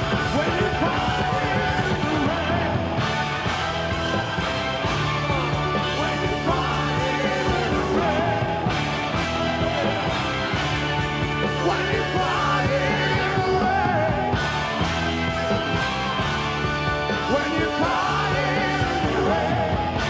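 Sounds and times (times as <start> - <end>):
bass guitar: 0.0 - 20.0
drums: 0.0 - 20.0
electric guitars: 0.0 - 20.0.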